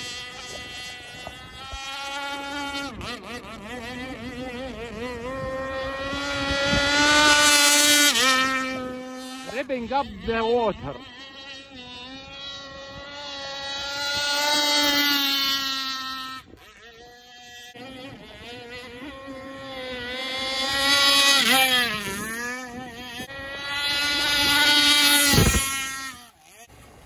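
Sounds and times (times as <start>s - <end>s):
model boat engine at high revs: 0.0s - 27.0s.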